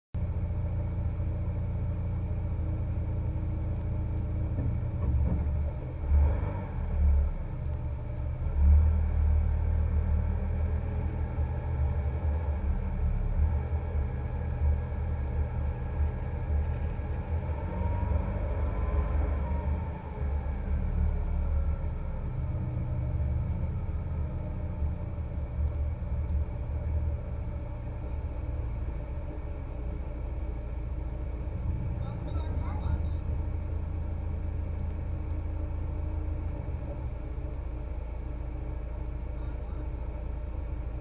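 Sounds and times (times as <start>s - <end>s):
car engine rumbling: 0.2s - 41.0s.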